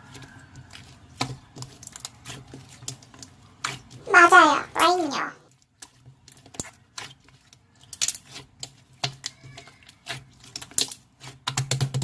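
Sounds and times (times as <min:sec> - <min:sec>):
slime clicking and crackling: 0:00.0 - 0:12.0.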